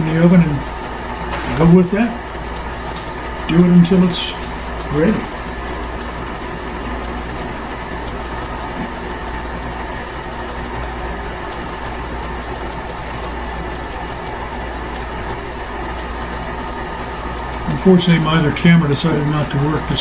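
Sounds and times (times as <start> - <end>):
stand mixer beating dough: 0.0 - 20.0.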